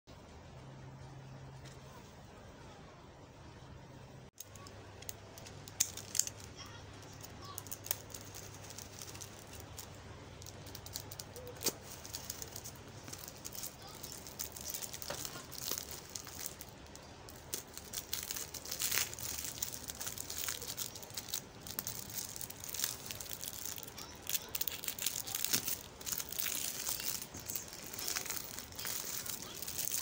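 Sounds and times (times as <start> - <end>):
plastic wrap crinkling and tearing: 5.3 - 30.0.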